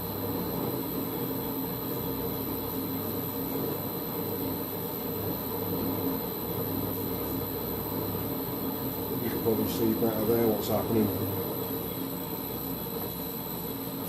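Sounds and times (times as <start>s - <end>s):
lathe running: 0.2s - 14.0s.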